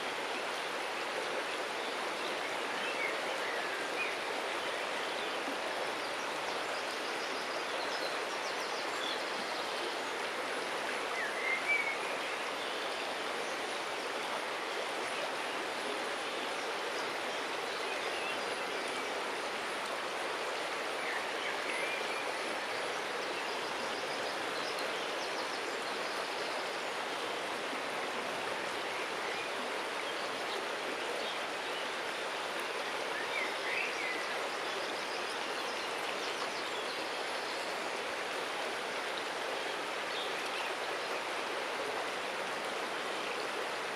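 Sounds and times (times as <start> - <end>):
river water running: 0.0 - 43.9.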